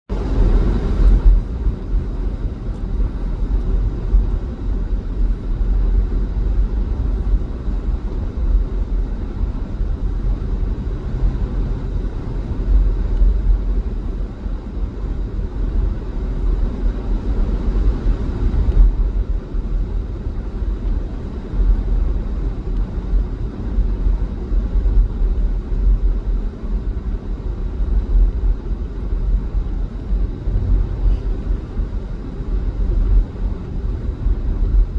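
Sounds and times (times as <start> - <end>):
car road and engine rumble: 0.1 - 34.9.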